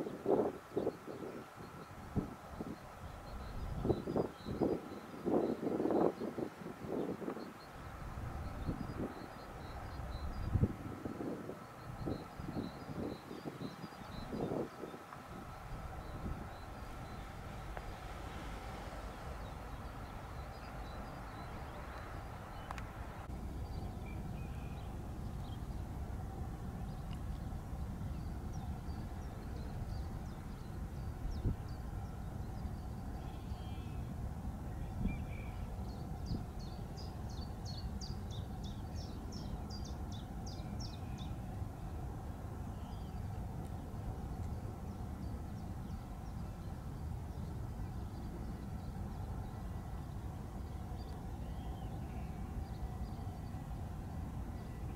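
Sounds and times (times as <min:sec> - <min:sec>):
steady low rumble: 0:06.3 - 0:54.9.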